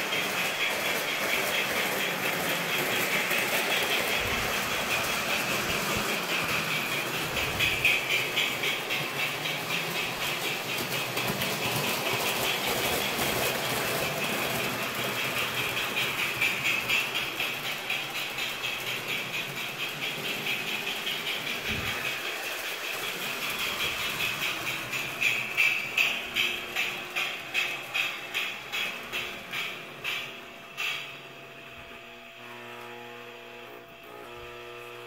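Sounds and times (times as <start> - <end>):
model train rattling and clicking: 0.0 - 32.9.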